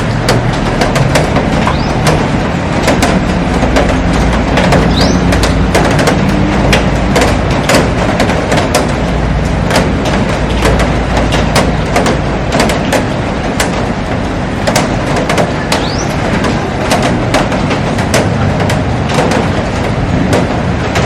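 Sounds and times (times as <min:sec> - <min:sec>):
heavy rain: 0:00.0 - 0:21.0
raindrops tapping on glass: 0:00.0 - 0:21.0.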